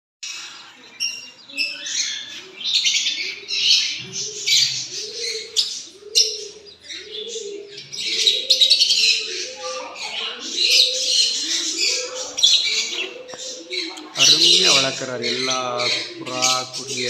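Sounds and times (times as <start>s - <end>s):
doves cooing: 0.2s - 17.0s
small birds chirping: 0.2s - 17.0s.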